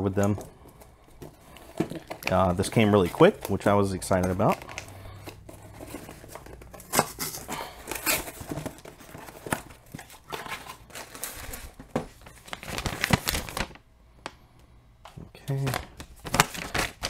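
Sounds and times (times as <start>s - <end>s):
foil liner crinkling: 0.2s - 13.8s, 15.5s - 17.0s.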